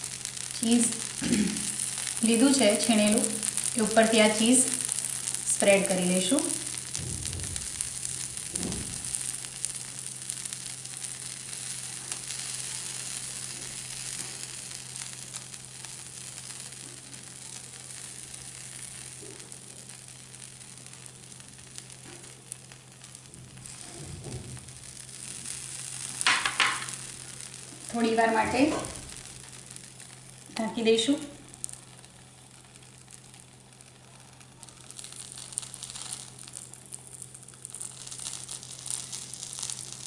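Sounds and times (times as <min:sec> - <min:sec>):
butter sizzling on a pan: 0:00.0 - 0:40.0.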